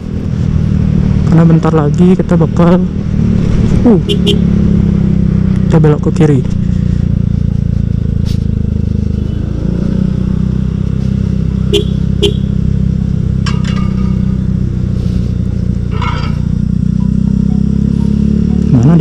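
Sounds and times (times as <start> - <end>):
motorcycle exhaust note: 0.0 - 19.0.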